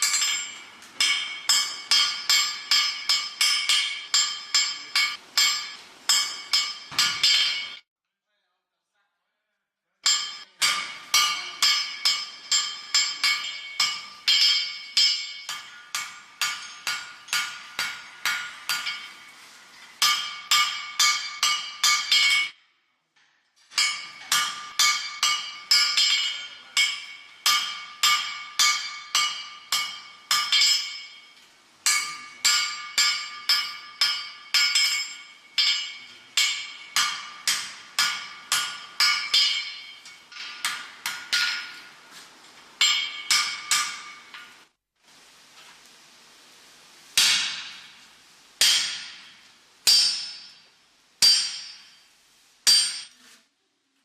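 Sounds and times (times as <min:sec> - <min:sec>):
hammer striking iron on anvil: 0:00.0 - 0:07.8, 0:10.0 - 0:19.4, 0:20.0 - 0:22.6, 0:23.7 - 0:42.0, 0:42.8 - 0:44.6, 0:47.2 - 0:48.0, 0:48.6 - 0:52.1, 0:52.7 - 0:53.1.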